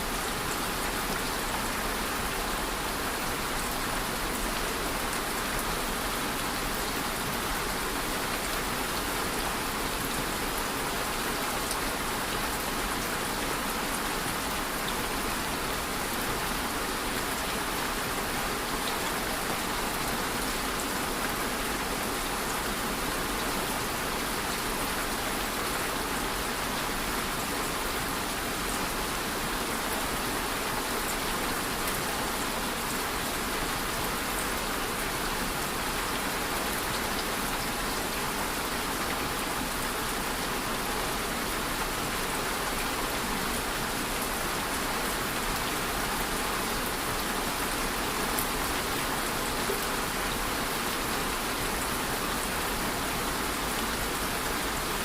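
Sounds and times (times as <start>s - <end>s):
steady rain with pattering drops: 0.0s - 55.0s.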